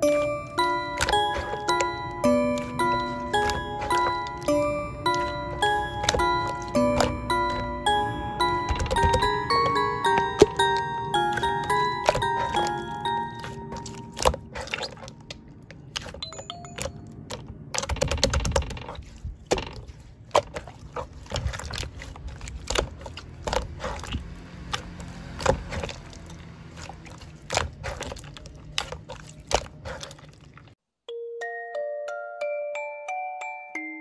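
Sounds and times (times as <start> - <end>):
slime squelching by hand: 0.0 - 30.8.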